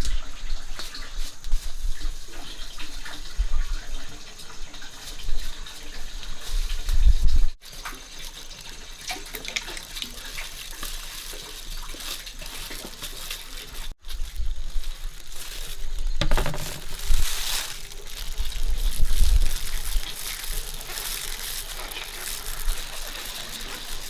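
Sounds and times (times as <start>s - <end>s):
water running and splashing: 0.0s - 24.0s.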